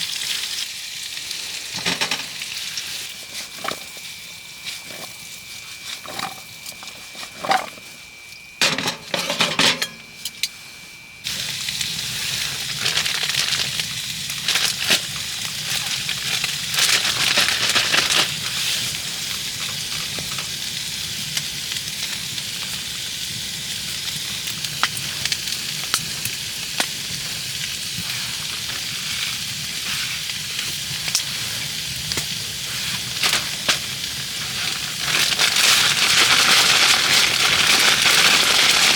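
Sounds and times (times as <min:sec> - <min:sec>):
food sizzling in a pan: 0:00.0 - 0:07.8, 0:11.2 - 0:38.9.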